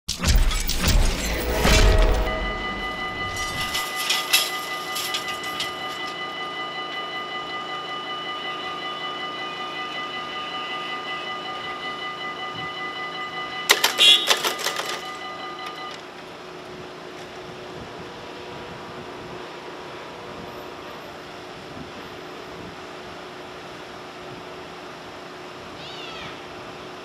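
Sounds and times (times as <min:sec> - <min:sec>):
level crossing warning bells: 0:00.5 - 0:25.4.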